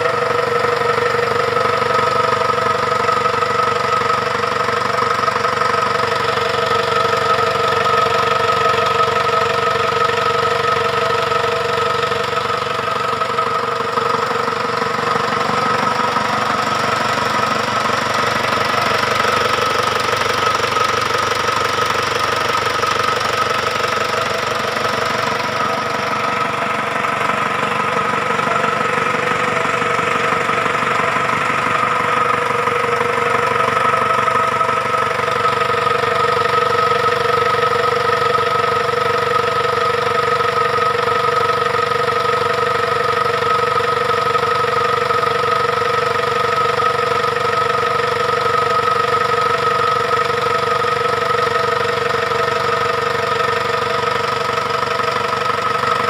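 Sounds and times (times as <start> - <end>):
constant whine: 0.0 - 56.0
diesel engine idling: 0.0 - 56.0.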